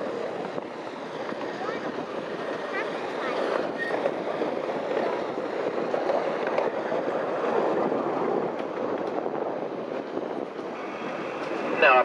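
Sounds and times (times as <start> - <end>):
small train running on track: 0.0 - 12.0
wind on microphone: 0.0 - 12.0.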